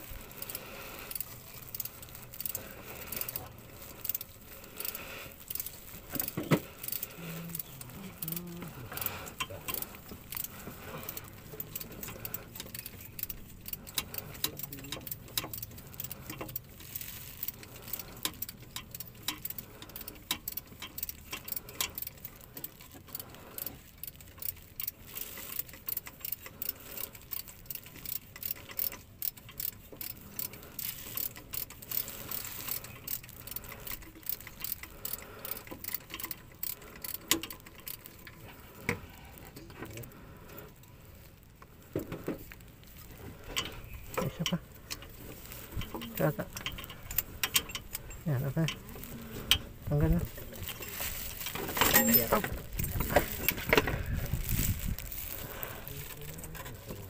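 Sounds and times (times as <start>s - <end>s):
ratchet wrench clicking: 0.0s - 39.4s, 42.9s - 56.9s.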